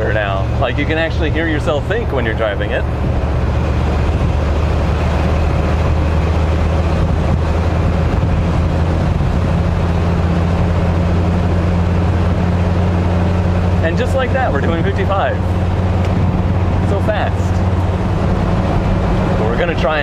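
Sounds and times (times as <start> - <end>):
road noise: 0.0 - 20.0
truck engine and exhaust drone: 0.0 - 20.0.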